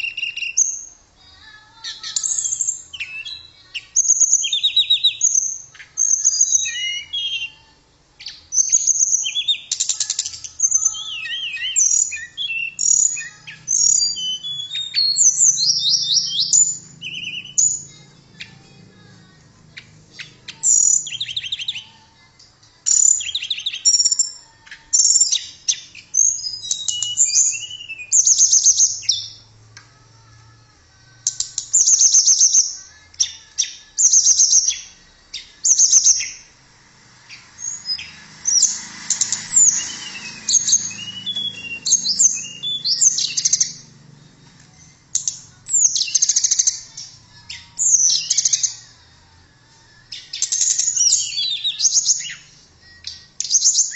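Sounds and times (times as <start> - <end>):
small bird twittering song: 0.0 - 1.0, 1.8 - 19.1, 19.7 - 29.4, 31.2 - 36.5, 37.3 - 43.9, 44.7 - 48.9, 50.1 - 53.9.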